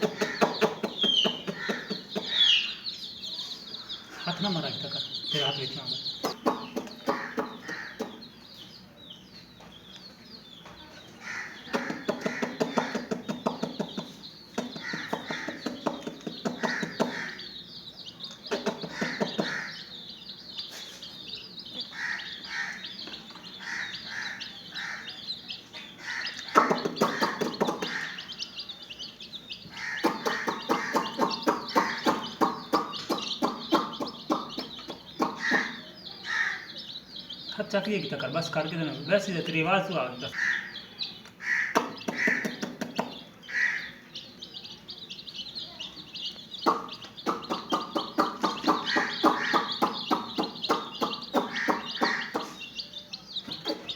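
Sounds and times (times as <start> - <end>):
chicks cheeping: 0.0 - 53.9
hen clucking: 0.0 - 53.9.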